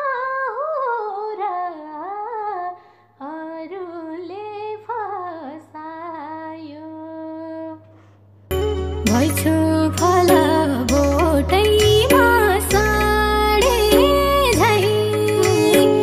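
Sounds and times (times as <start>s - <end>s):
woman singing: 0.0s - 7.9s, 8.9s - 16.0s.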